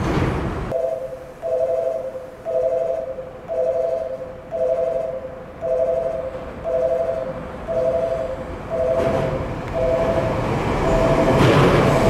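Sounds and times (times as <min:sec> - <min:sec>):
two-note electronic warning tone: 0:00.8 - 0:11.4.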